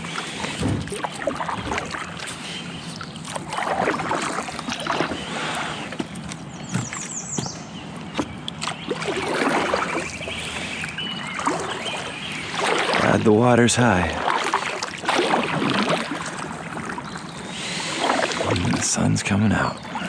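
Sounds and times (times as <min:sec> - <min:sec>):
paddle splashing in water: 0:00.0 - 0:07.4, 0:08.1 - 0:19.1.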